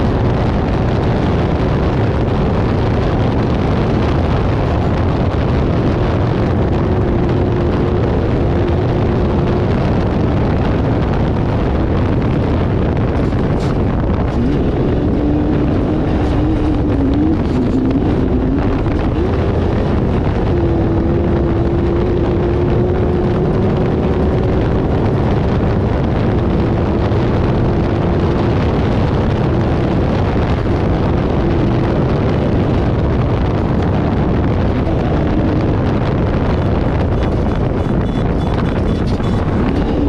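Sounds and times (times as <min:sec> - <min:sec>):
loud road noise: 0:00.0 - 0:40.0
race vehicle engine: 0:00.0 - 0:40.0
wind buffeting microphone: 0:00.0 - 0:40.0.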